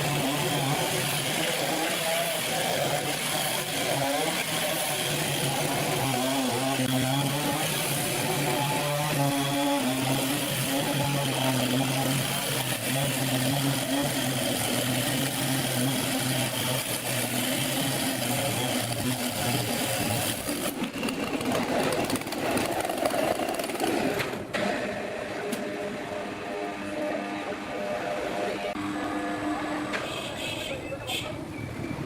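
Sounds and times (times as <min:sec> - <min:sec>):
sawmill machinery running: 0:00.0 - 0:30.1.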